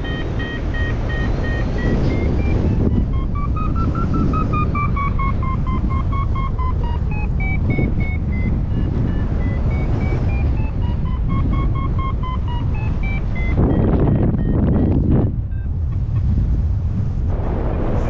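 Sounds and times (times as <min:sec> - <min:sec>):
variometer beeping: 0:00.0 - 0:16.6
wind rushing over microphone: 0:00.0 - 0:18.0.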